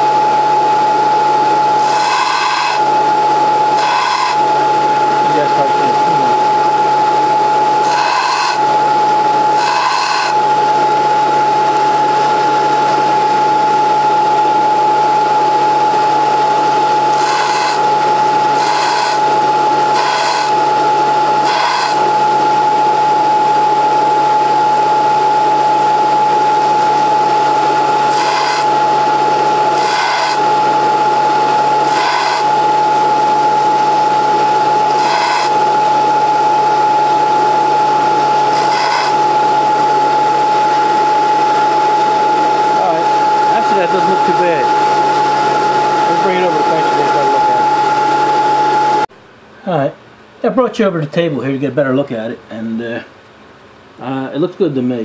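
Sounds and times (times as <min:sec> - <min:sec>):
belt sander whine: 0:00.0 - 0:49.1
drill bit grinding on belt: 0:01.3 - 0:49.0.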